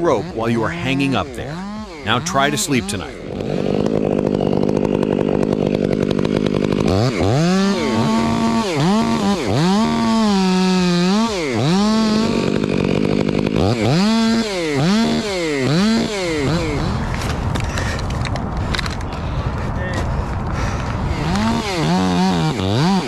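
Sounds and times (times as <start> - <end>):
chainsaw revving: 0.0 - 19.0, 20.6 - 23.0.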